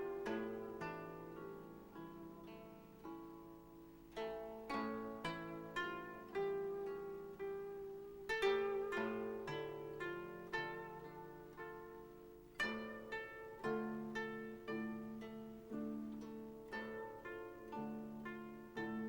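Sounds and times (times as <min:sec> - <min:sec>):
koto plucked notes: 0:00.0 - 0:19.0.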